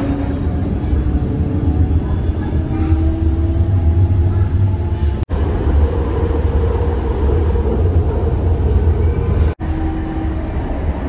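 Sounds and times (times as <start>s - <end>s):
light-rail train rumbling: 0.0s - 11.0s.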